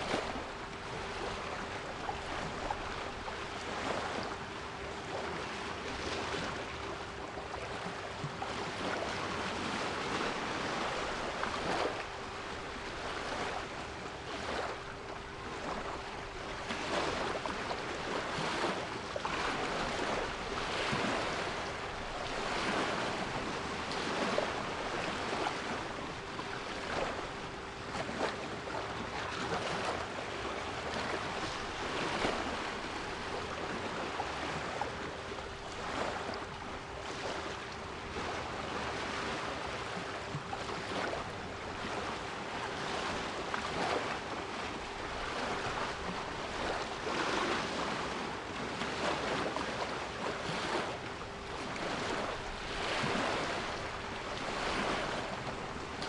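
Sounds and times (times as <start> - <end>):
sea waves breaking: 0.0 - 56.0.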